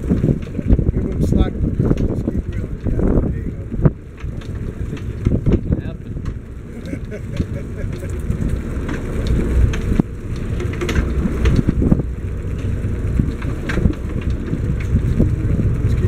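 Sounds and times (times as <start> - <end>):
crackles and knocks: 0.0 - 16.0
wind buffeting microphone: 0.0 - 16.0.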